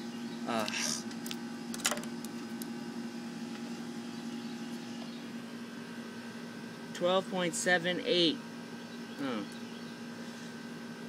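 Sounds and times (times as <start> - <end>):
steady hum with fixed tones: 0.0 - 11.0.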